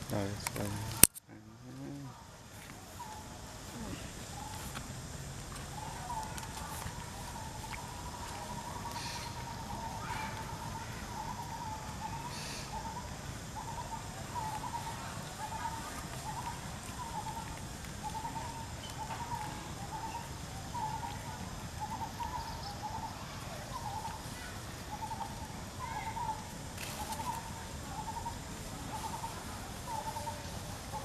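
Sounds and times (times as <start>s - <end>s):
bird calling: 2.9s - 31.0s.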